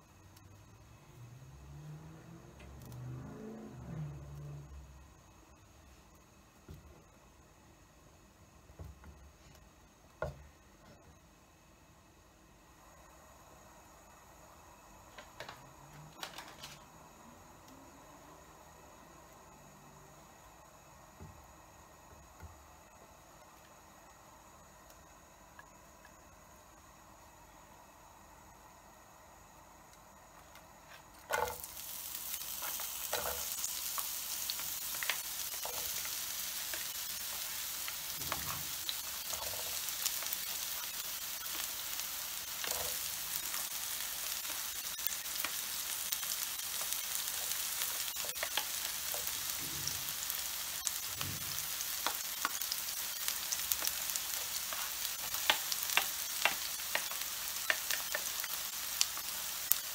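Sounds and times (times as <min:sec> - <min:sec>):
onion sizzling in hot oil: 0:00.0 - 0:07.9, 0:12.7 - 0:59.9.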